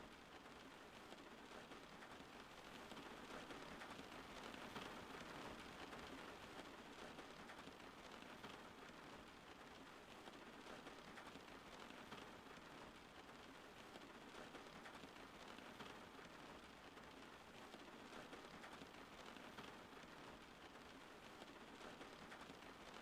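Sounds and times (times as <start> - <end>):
faint steady rain: 0.0 - 23.0.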